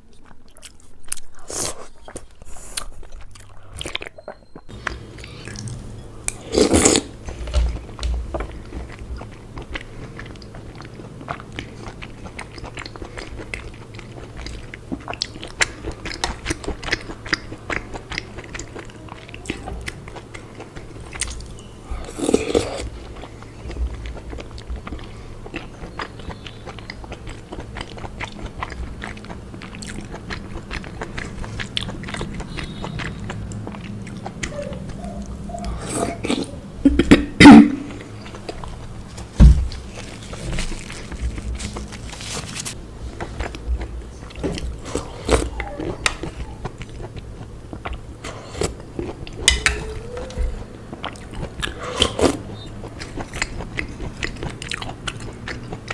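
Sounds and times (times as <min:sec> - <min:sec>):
faint low hum: 0:00.0 - 0:55.9
person chewing: 0:00.0 - 0:55.9.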